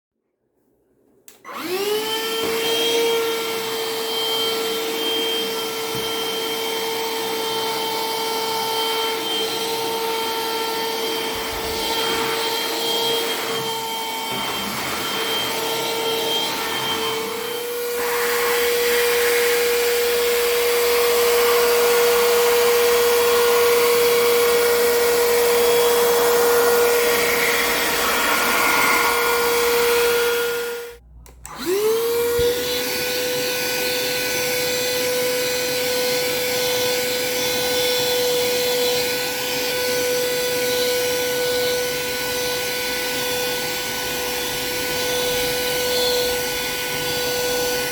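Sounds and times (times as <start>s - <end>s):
handheld vacuum running: 1.4s - 47.9s.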